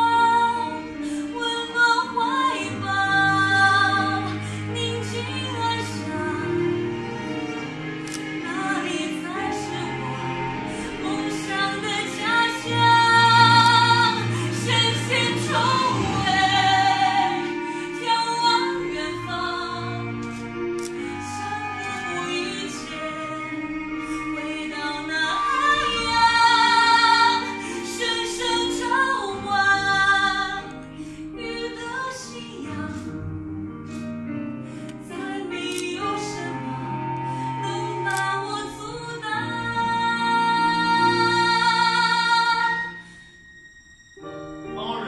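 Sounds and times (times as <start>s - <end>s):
woman singing: 0.0s - 7.0s, 8.4s - 33.3s, 35.0s - 43.0s
instrumental accompaniment: 0.0s - 45.0s.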